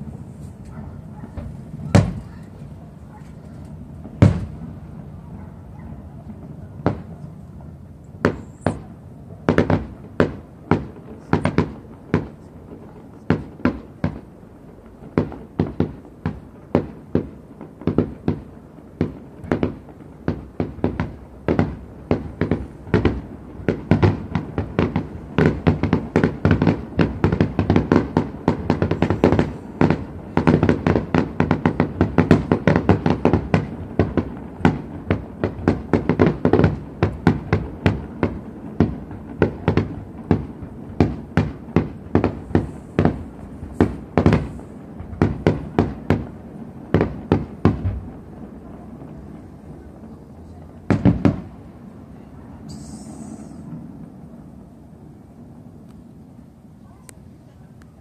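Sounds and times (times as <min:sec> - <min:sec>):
fireworks bursting in bangs: 0:00.0 - 0:05.4, 0:06.0 - 0:54.3.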